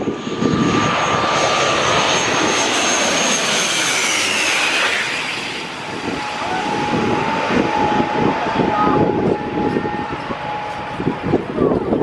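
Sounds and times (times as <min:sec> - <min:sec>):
high engine whine: 0:00.0 - 0:12.0
turboprop airplane passing overhead: 0:00.0 - 0:12.0.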